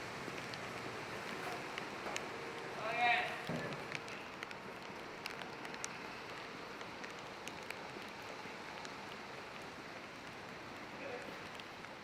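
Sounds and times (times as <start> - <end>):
rain on a street: 0.0 - 12.0
raindrops ticking close by: 0.0 - 12.0.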